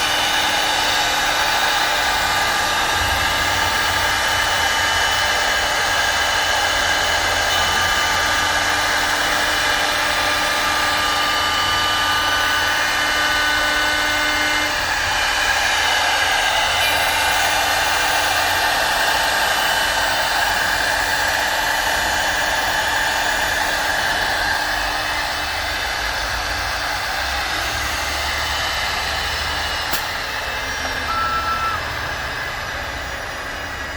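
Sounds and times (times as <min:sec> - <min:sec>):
router spindle whining: 0:00.0 - 0:33.9
wood cutting noise: 0:00.0 - 0:33.9.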